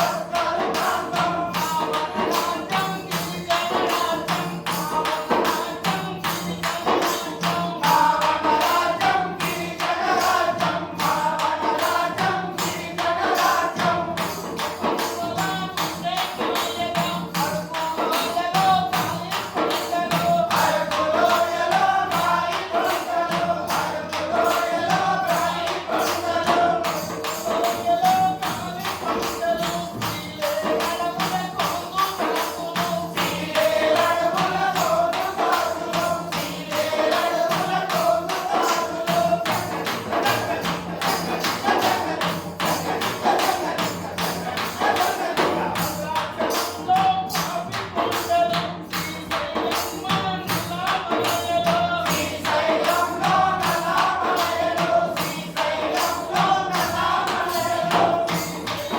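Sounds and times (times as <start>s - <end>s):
man singing folk song: 0.0s - 58.9s
tambourine beat: 0.0s - 58.9s.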